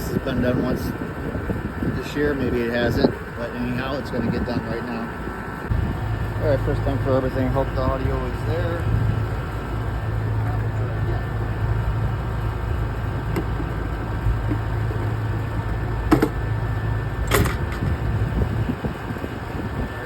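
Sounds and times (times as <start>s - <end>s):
air conditioner unit humming: 0.0s - 20.0s.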